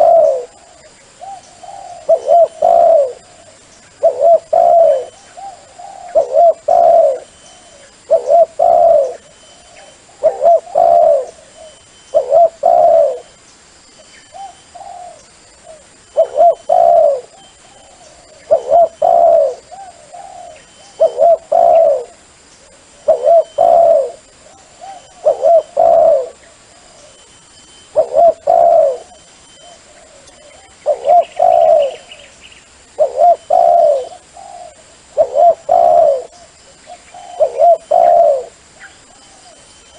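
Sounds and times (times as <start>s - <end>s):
dove cooing: 0.0s - 13.4s, 14.3s - 39.9s.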